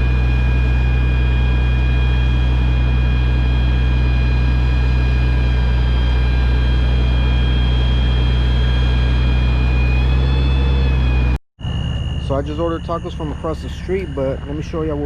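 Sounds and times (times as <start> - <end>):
diesel engine drone: 0.0 - 15.0
thin high whine: 0.0 - 15.0.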